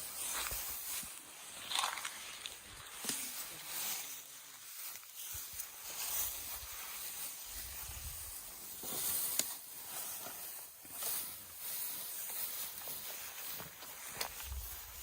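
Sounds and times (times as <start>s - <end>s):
elephants chewing leafy branches: 1.6s - 15.0s.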